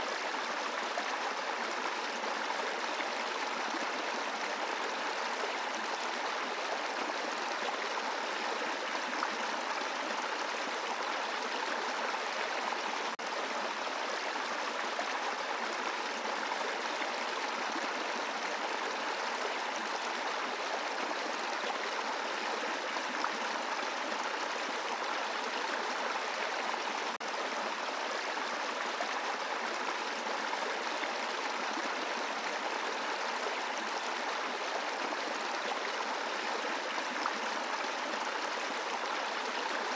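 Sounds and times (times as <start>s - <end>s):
brook flowing over rocks: 0.0s - 39.9s.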